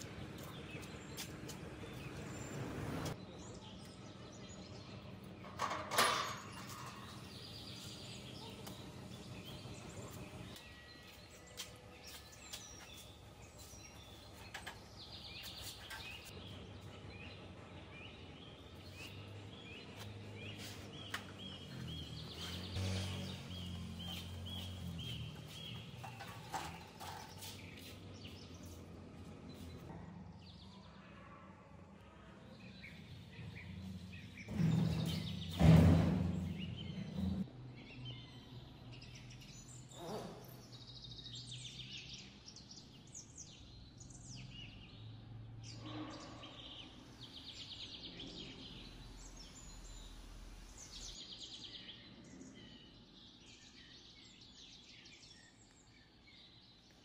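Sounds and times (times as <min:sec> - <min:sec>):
bird chirping: 0:06.3 - 0:30.9, 0:32.6 - 0:57.0.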